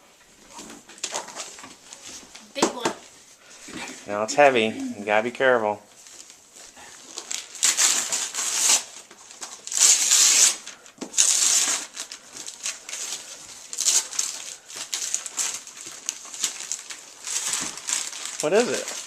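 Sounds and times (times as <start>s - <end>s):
wrapping paper tearing and crumpling: 1.0s - 3.3s, 5.9s - 19.0s.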